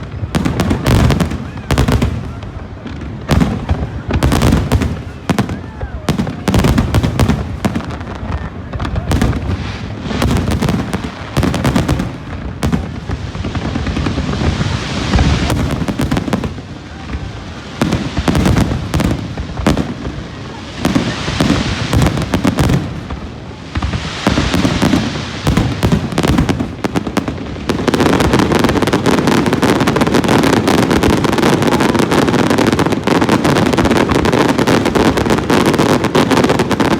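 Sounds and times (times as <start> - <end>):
fireworks crackling: 0.0 - 36.9.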